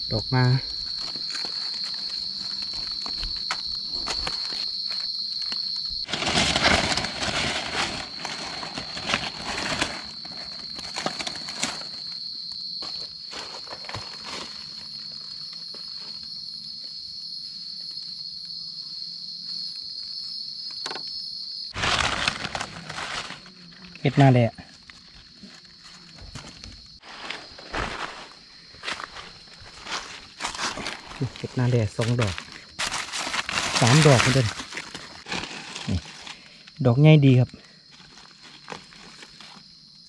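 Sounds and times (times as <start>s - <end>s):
high-pitched insect drone: 0.0s - 40.0s
rustling in dry leaves: 0.7s - 16.4s, 21.7s - 40.0s.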